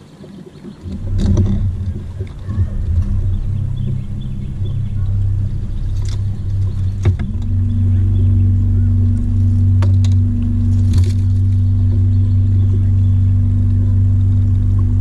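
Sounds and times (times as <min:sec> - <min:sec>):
electric boat motor humming: 0:00.2 - 0:15.0
gear knocking on deck: 0:00.8 - 0:15.0.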